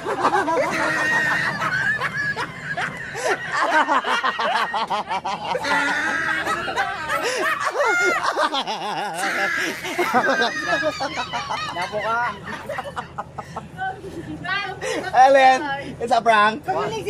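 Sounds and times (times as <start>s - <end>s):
people laughing hard: 0.0s - 15.2s.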